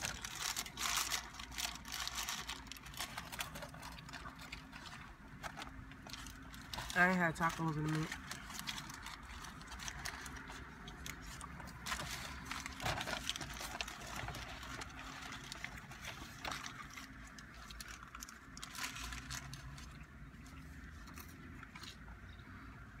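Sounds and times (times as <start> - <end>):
paper wrappers crinkling: 0.0 - 22.2.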